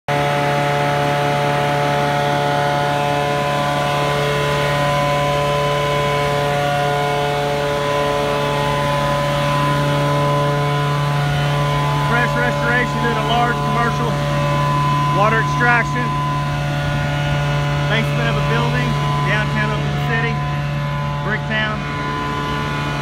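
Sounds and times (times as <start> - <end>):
engine and vacuum blower drone: 0.1 - 23.0.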